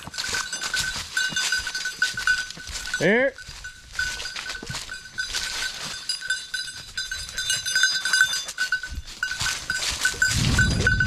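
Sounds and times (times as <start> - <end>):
dog collar bell jingling: 0.0 - 11.0
footsteps crunching dry leaves: 0.0 - 11.0.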